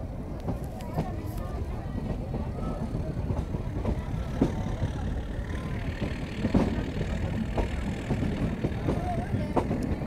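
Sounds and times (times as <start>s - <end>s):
train rumbling with knocks: 0.0s - 10.0s.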